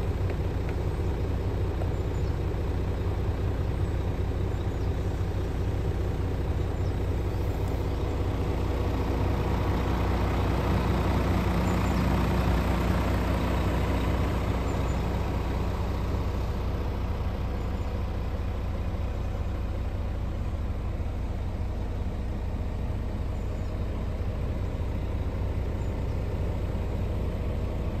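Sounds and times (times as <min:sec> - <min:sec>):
diesel truck engine idling: 0:00.0 - 0:28.0.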